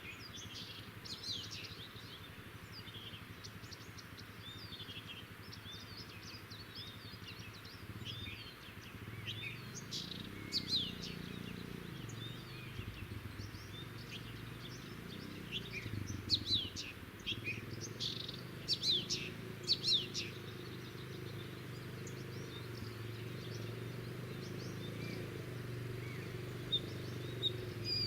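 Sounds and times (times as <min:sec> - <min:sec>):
songbirds chirping: 0:00.0 - 0:28.0
low steady rumble: 0:00.2 - 0:28.0.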